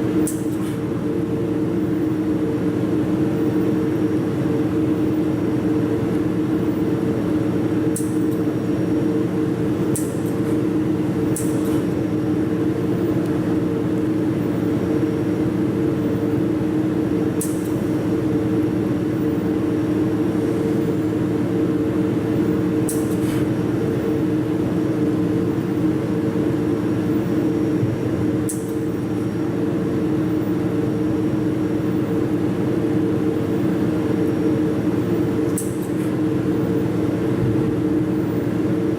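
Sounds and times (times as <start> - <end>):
welding machine humming: 0.0 - 38.9.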